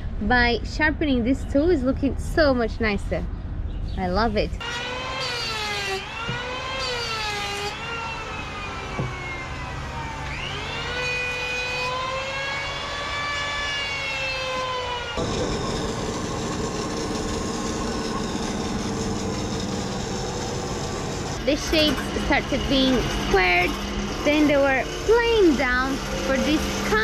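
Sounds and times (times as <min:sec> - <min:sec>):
electric hand plane cutting wood: 0:04.6 - 0:27.0
wood lathe running: 0:04.6 - 0:27.0.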